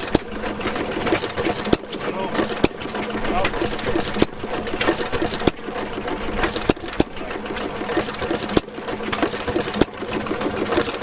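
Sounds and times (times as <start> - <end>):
gas engines clattering: 0.0 - 11.0
steady engine hum: 0.0 - 11.0.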